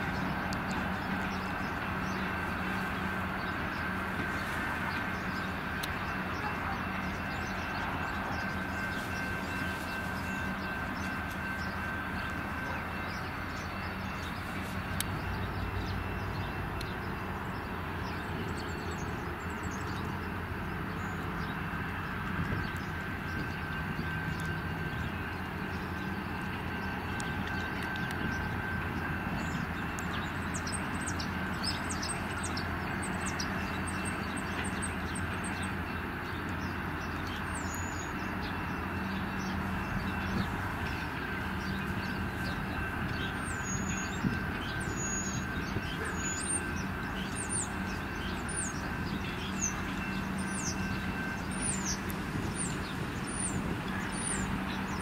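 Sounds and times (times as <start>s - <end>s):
diesel locomotive engine running: 0.0s - 55.0s
wheels clicking on rails: 0.0s - 55.0s.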